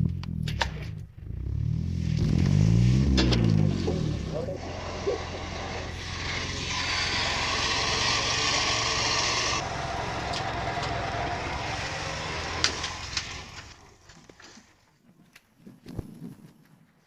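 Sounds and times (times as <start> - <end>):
vehicle engine humming: 0.0 - 14.4.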